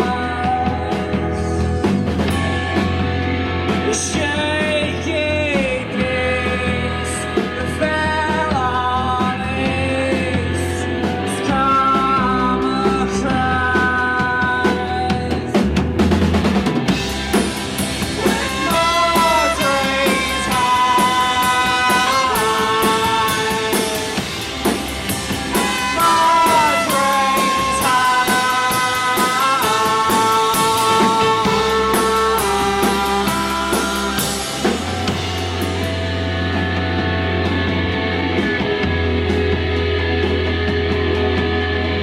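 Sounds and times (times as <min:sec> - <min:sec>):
drum kit beat: 0:00.0 - 0:42.0
sliding lead melody: 0:00.0 - 0:42.0.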